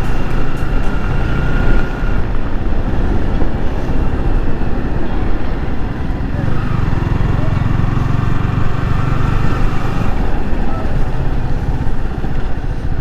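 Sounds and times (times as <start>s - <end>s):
motorcycle engine at speed: 0.0s - 13.0s
wind rushing over microphone: 0.0s - 13.0s.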